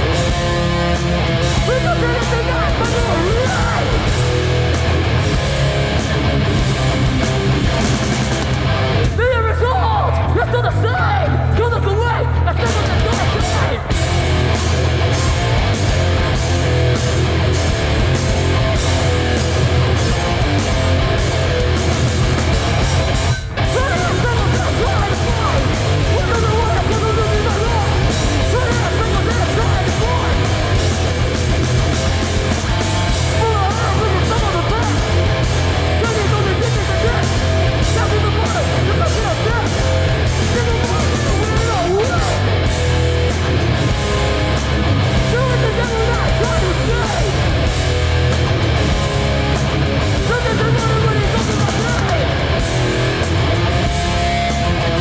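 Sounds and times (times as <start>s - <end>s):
punk band playing loud: 0.0s - 55.0s.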